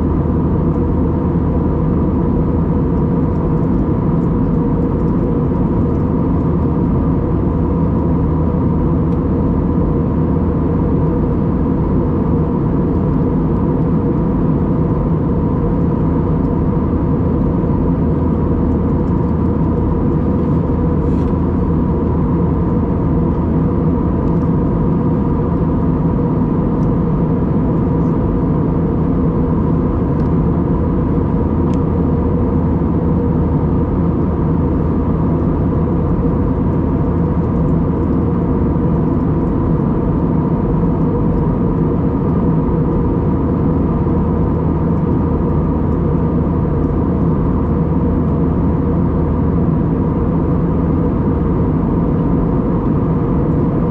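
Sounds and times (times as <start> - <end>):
jet engines humming in cabin: 0.0 - 53.9.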